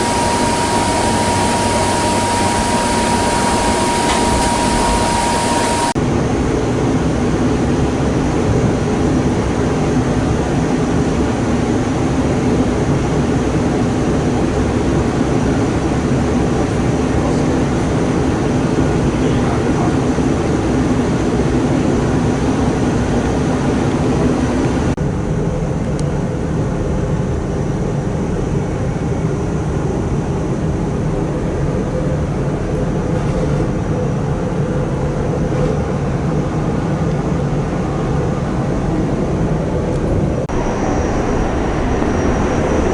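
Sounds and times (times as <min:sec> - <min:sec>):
train rumble and hiss: 0:00.0 - 0:42.9.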